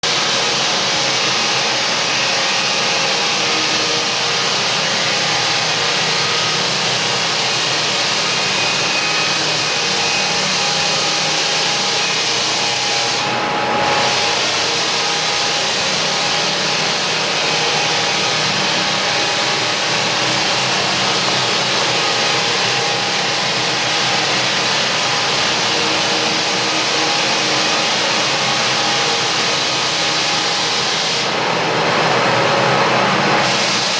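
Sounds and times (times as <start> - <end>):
floor sander hissing: 0.0 - 33.9.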